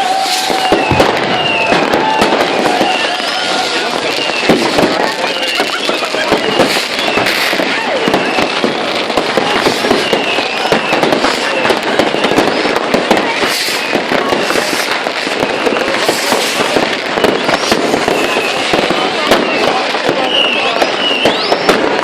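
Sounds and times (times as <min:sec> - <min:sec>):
fireworks bangs and crackles: 0:00.0 - 0:22.0
fireworks whistles: 0:00.0 - 0:22.0.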